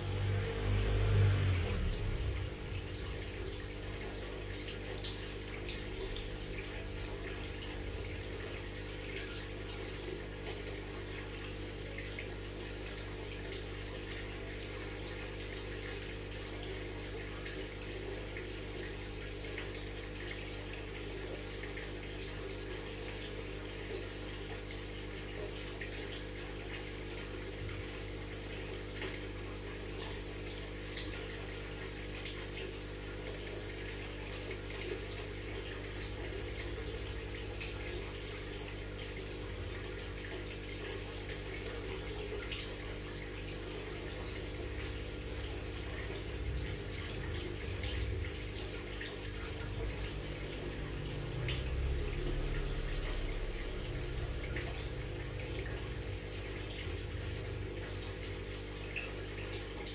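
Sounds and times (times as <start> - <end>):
aquarium water splashing and bubbling: 0.0 - 59.9
low hum of pump motor: 0.0 - 59.9.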